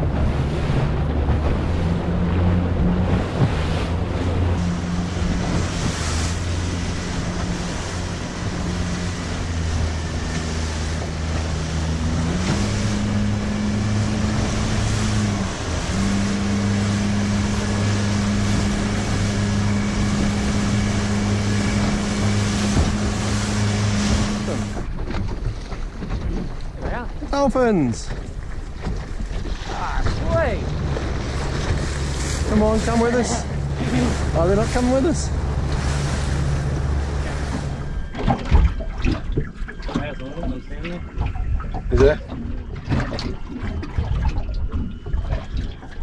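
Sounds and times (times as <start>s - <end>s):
outboard motor engine: 0.0s - 46.0s
water rushing past hull: 0.0s - 46.0s.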